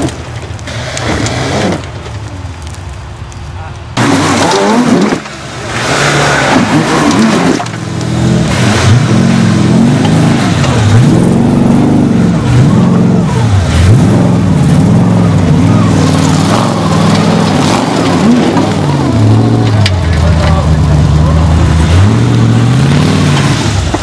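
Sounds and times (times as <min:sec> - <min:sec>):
off-road engine revving: 0:00.0 - 0:02.0, 0:04.0 - 0:24.0.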